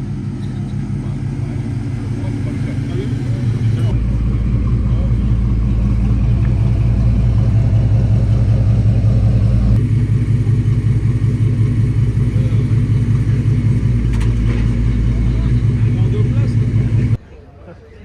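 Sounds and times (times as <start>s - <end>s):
car engine idling: 0.0s - 17.2s.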